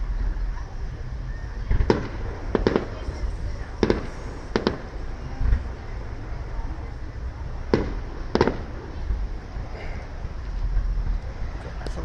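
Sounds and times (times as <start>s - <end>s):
fireworks bangs: 1.6s - 11.4s.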